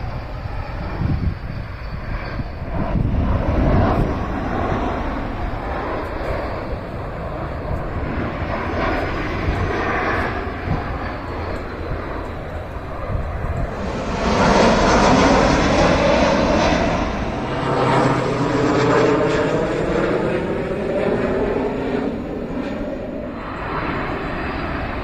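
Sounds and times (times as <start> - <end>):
aeroplane flying overhead: 0.0 - 25.0.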